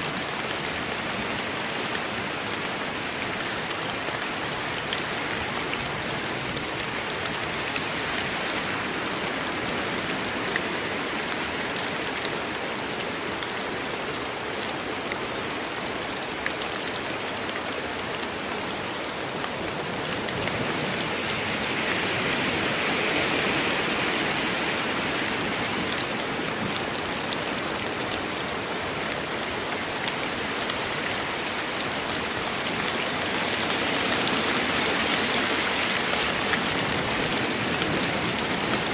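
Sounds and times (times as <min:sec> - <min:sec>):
rain falling in woodland: 0:00.0 - 0:38.9.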